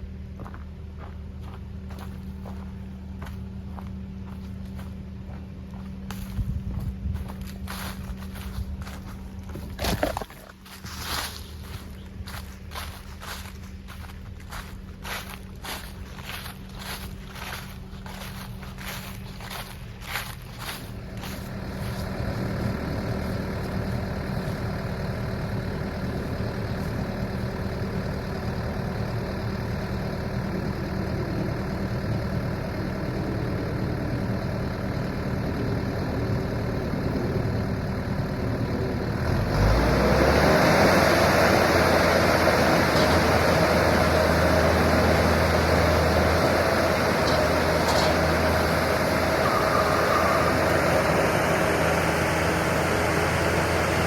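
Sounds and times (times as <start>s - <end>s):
diesel engine running and revving: 0.0s - 54.0s.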